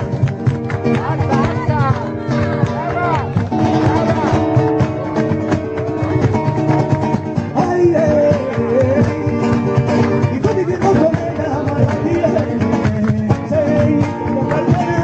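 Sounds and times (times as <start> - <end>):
flamenco guitar playing: 0.0 - 15.0.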